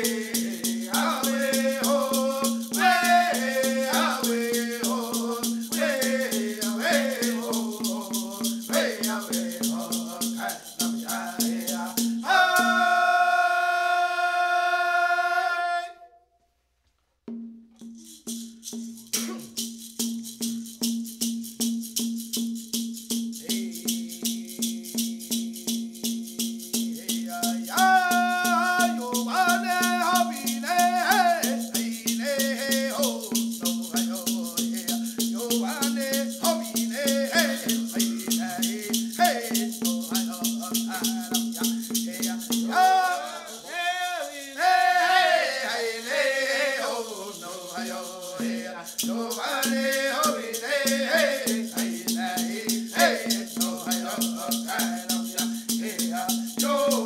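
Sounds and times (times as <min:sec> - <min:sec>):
shaken rattles beat: 0:00.0 - 0:13.9, 0:17.3 - 0:57.0
person singing: 0:00.0 - 0:16.1, 0:27.0 - 0:57.0.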